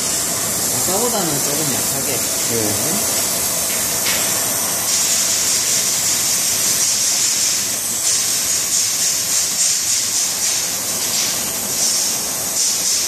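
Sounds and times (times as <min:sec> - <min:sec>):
gas torch flame hissing: 0:00.0 - 0:13.0.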